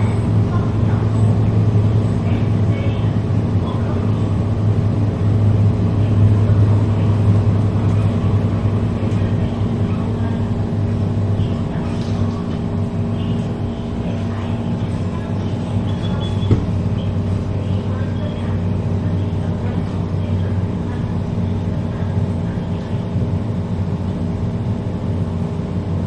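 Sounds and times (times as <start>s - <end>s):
train hum: 0.0s - 26.0s
wheels rumbling on track: 0.0s - 26.0s.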